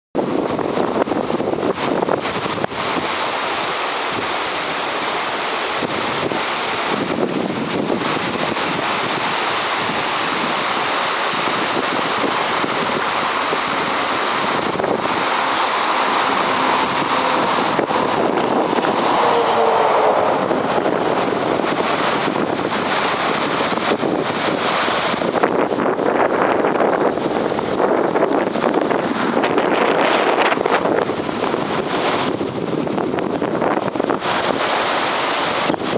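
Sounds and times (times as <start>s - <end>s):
flooded river water rushing: 0.2s - 35.9s.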